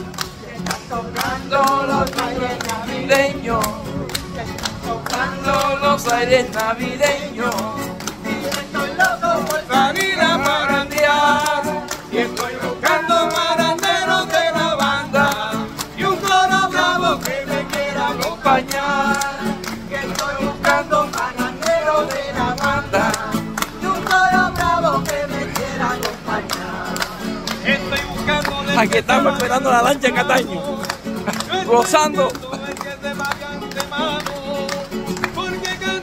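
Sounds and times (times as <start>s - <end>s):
clapping: 0.0s - 36.0s
hand percussion: 0.0s - 36.0s
strummed acoustic guitars: 0.0s - 36.0s
voices singing: 0.0s - 36.0s.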